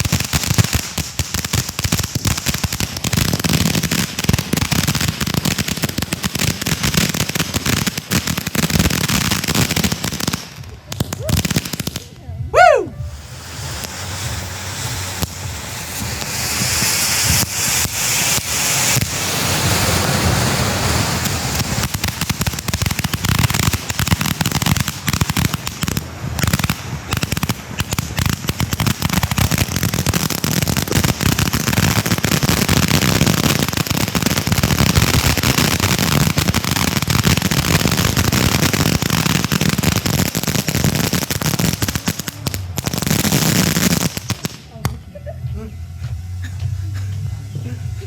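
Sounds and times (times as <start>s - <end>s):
firework hiss: 0.0s - 45.0s
fireworks popping and crackling: 0.0s - 45.1s.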